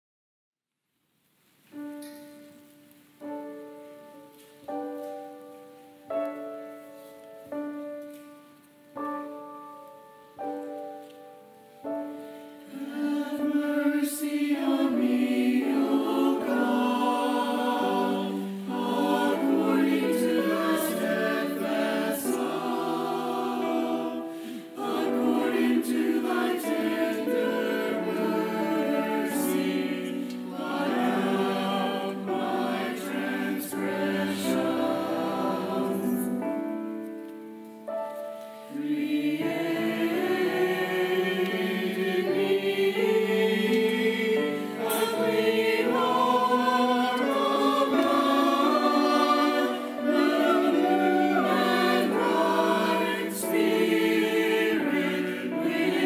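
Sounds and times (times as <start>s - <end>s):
church choir singing in parts: 1.7s - 56.0s
piano chords: 1.7s - 56.0s.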